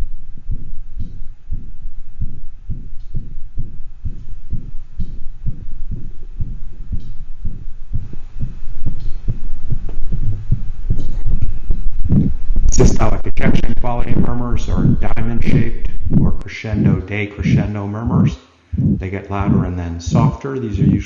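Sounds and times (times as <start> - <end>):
dog heartbeat with murmur: 0.0 - 12.8, 13.5 - 21.0.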